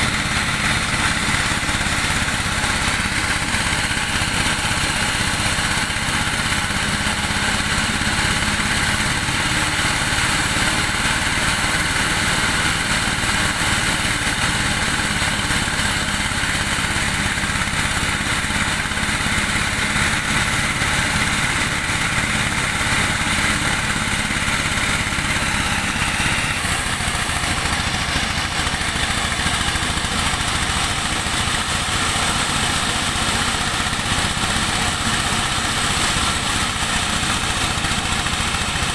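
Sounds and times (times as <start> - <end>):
corn sheller motor humming: 0.0 - 38.9.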